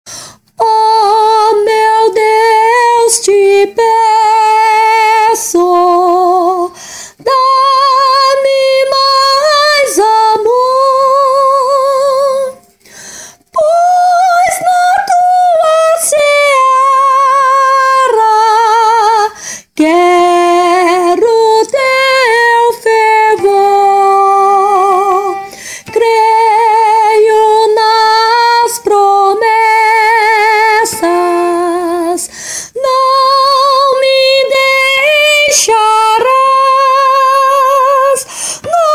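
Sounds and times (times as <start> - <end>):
soprano singing a hymn: 0.2 - 38.9.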